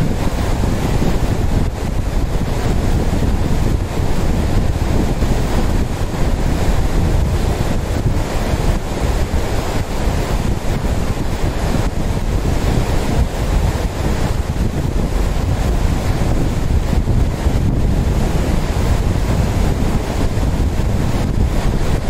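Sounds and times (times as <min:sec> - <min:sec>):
water rushing over rocks: 0:00.0 - 0:22.0
wind rumbling on microphone: 0:00.0 - 0:22.0.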